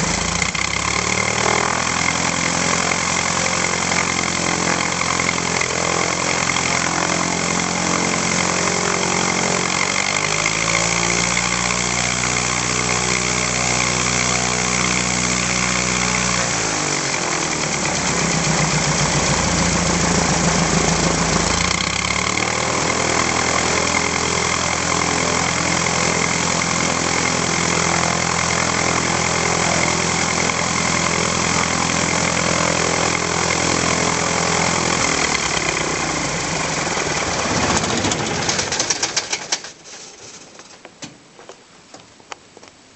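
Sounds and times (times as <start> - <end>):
light aircraft piston engine: 0.0 - 39.0.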